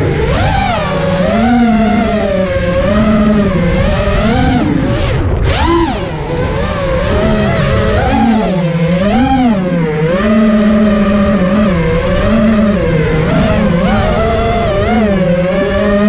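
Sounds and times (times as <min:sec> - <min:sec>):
quadcopter motors buzzing: 0:00.0 - 0:16.0.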